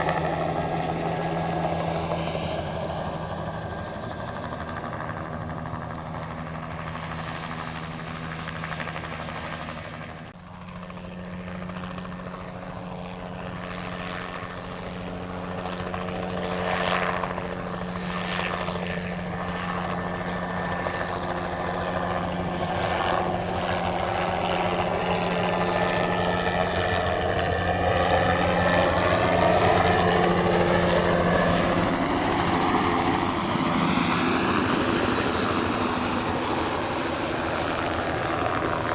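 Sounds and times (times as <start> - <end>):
helicopter flying: 0.0 - 38.9.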